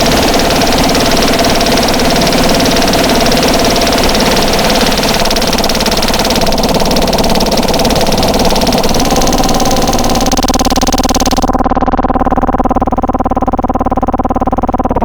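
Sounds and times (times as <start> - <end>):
steady held tone: 0.0 - 15.0
stuttering buzzing drone: 0.0 - 15.0.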